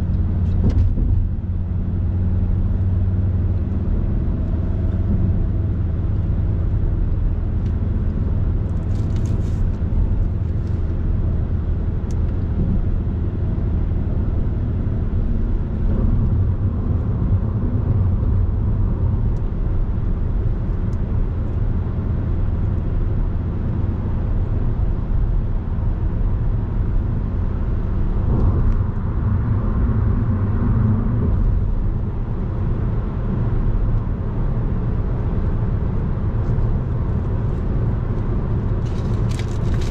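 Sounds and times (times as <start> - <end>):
tyre and wind rumble in car: 0.0 - 39.9.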